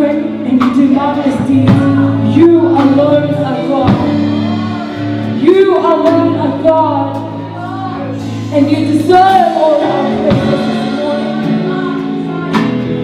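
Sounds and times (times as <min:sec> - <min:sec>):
sustained keyboard chords: 0:00.0 - 0:13.0
woman singing into microphone: 0:00.0 - 0:13.0.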